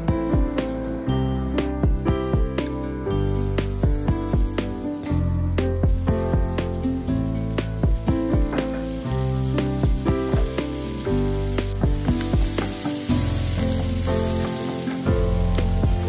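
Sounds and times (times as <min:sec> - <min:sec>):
background music: 0:00.0 - 0:16.0
carrot sizzling in a pan: 0:02.6 - 0:16.0.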